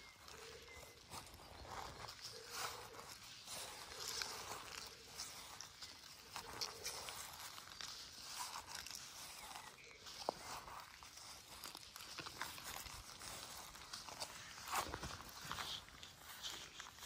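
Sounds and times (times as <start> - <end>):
footsteps through grass: 0.0 - 17.0.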